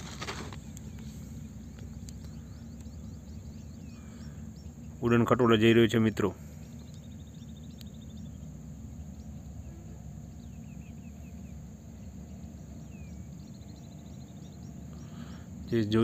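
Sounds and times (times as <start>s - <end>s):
bird calls: 0.0s - 16.0s
high insect drone: 0.0s - 16.0s
steady low rumble: 0.0s - 16.0s.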